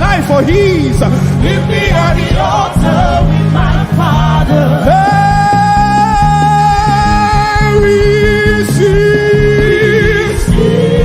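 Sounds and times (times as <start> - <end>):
band accompaniment with bass: 0.0 - 11.0.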